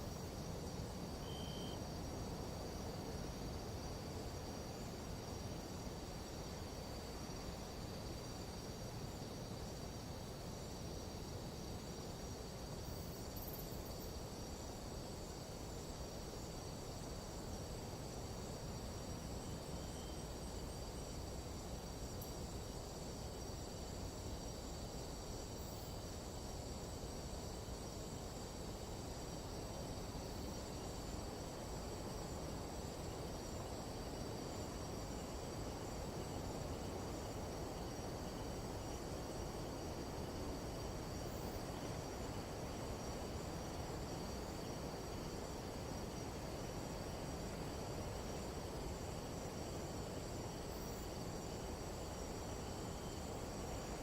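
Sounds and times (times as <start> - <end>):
insects high-pitched ringing: 0.0 - 54.0
low rush of background noise: 0.0 - 54.0.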